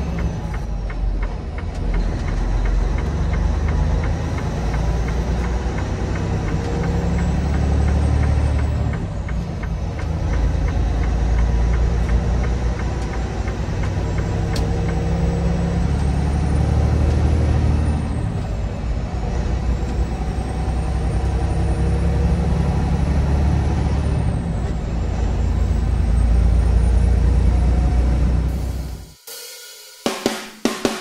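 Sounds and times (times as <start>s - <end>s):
truck diesel engine drone: 0.0s - 29.2s.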